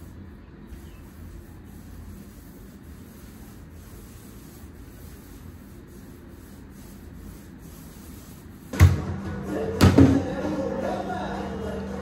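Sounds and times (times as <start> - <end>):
faint rubbing strokes: 0.0 - 12.0.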